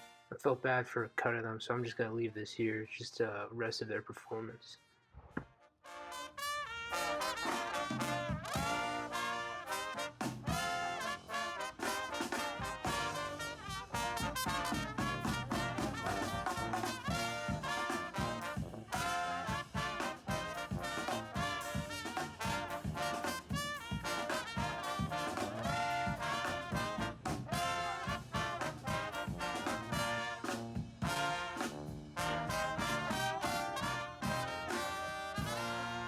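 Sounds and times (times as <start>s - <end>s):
brass swing band playing: 0.0s - 1.2s, 4.8s - 36.0s.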